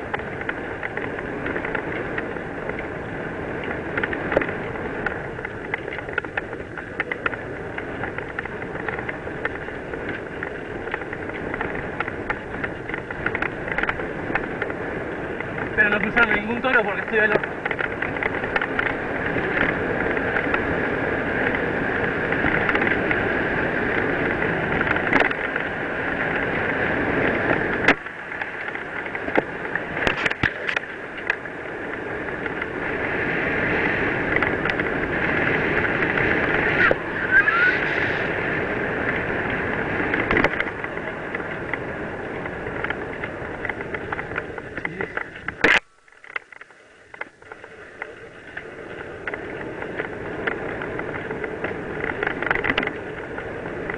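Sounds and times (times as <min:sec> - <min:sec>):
bike knocks and rattles: 0:00.0 - 0:53.9
bike tyres on dirt: 0:00.0 - 0:53.9
wind rush: 0:00.0 - 0:53.9.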